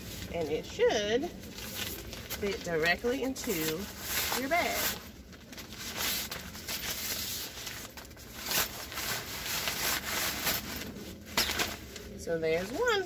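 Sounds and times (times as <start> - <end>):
nylon bag and netting rustling: 0.0 - 13.0.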